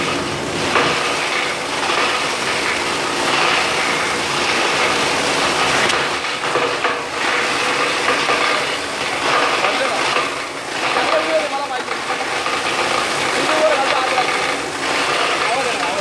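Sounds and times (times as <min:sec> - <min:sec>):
machine hum: 0:00.0 - 0:16.0
plastic grinder crackling: 0:00.0 - 0:16.0.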